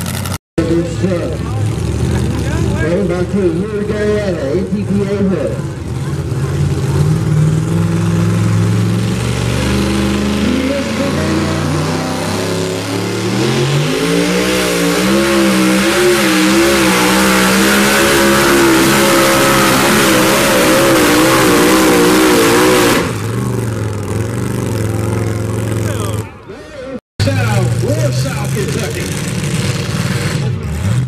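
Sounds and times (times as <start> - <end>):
supercharged truck engine revving: 0.0 - 26.6, 27.2 - 31.0.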